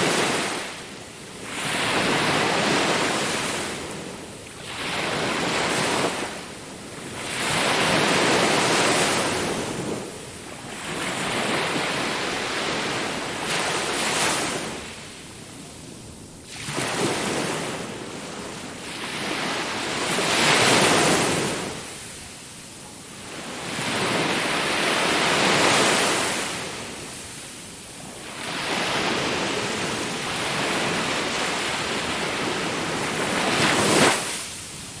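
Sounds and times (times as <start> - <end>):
sea waves washing in: 0.0 - 35.0.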